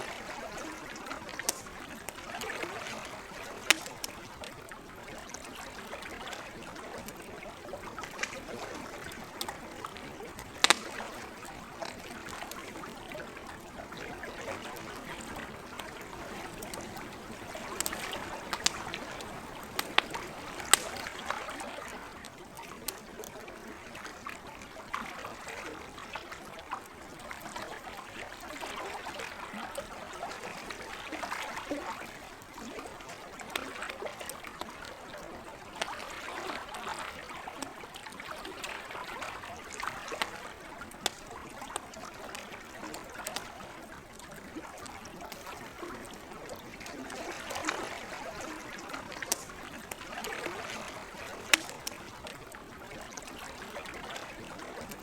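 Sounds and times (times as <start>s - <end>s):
campfire crackling and popping: 0.0s - 25.0s, 26.8s - 55.0s
lake water lapping: 0.0s - 55.0s.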